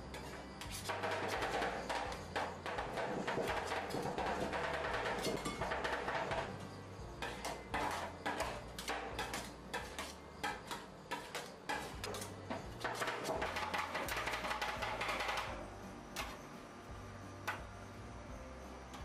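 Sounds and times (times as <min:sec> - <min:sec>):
metal spatulas scraping steel plate: 0:00.0 - 0:15.6.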